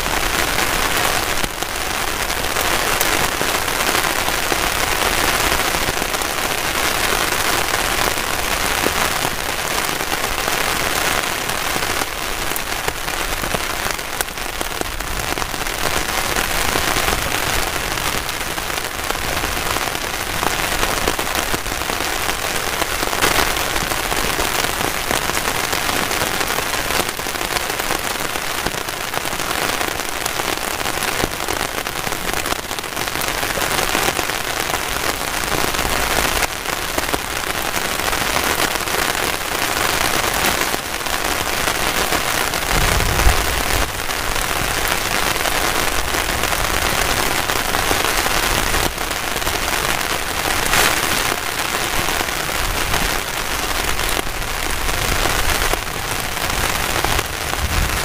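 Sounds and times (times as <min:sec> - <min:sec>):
heavy rain on a tarp: 0:00.0 - 0:58.0.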